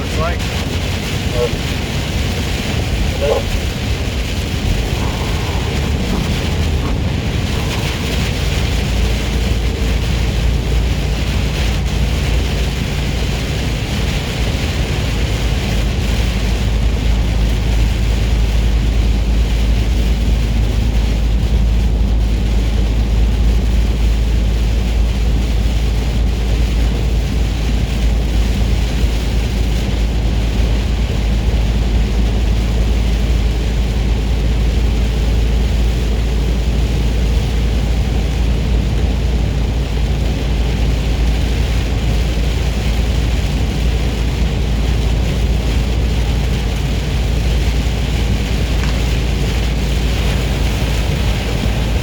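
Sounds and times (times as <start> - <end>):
diesel engine rumbling: 0.0 - 52.0
tyres hissing on wet road: 0.0 - 52.0.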